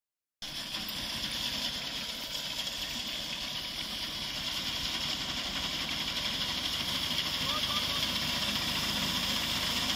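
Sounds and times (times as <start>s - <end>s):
tractor engine running: 0.4s - 9.9s.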